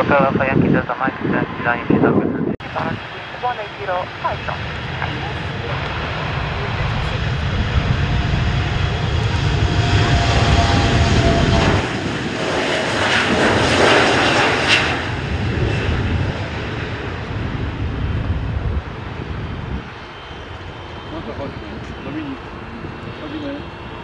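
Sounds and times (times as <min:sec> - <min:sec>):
airliner engines passing: 0:00.0 - 0:24.0.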